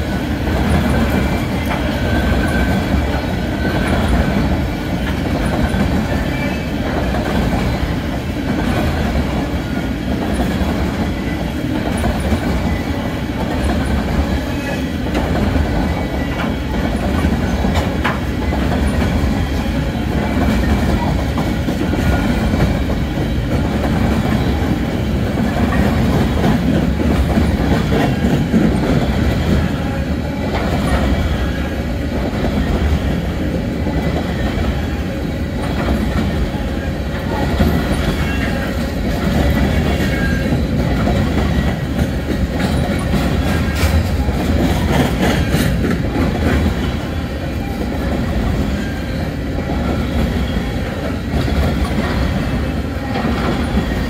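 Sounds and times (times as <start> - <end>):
train wheels clattering over rail joints: 0.0 - 35.0, 35.6 - 54.0.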